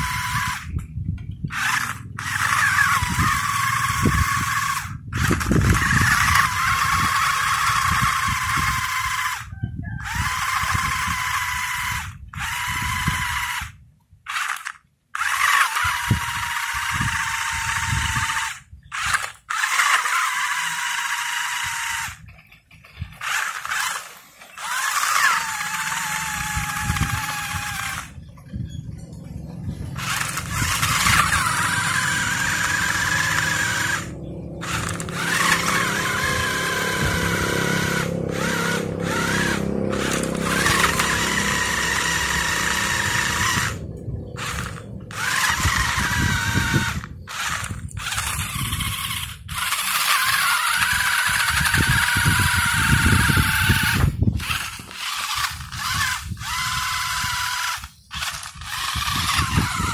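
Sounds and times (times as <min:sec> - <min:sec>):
toy car motors whining: 0:00.0 - 0:59.9.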